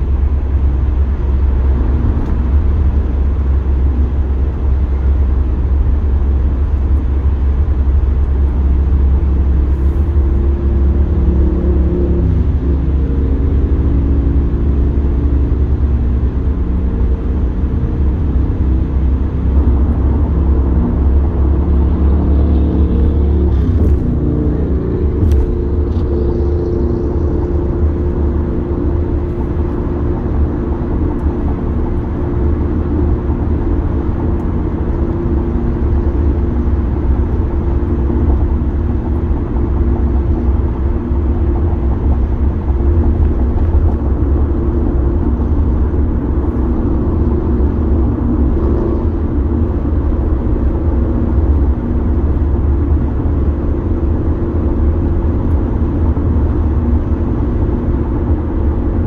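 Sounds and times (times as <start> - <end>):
car cabin road noise: 0.0 - 59.0.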